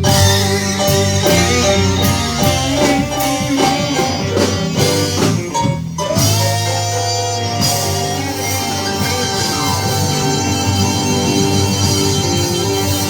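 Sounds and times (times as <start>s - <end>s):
bass: 0.0s - 13.0s
drums: 0.0s - 13.0s
lead guitar: 0.0s - 13.0s.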